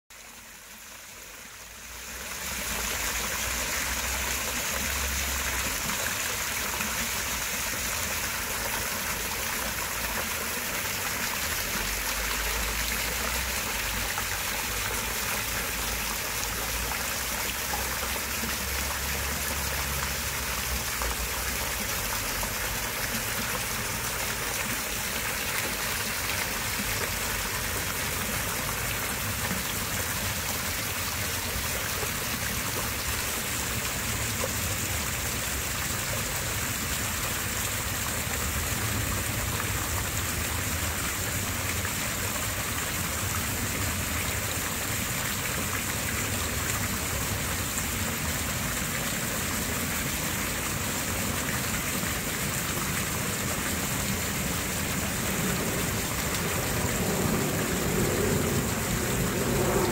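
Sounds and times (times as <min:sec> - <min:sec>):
water wheel pouring water: 0:00.1 - 0:59.9
fountain jet splashing: 0:00.3 - 0:59.9.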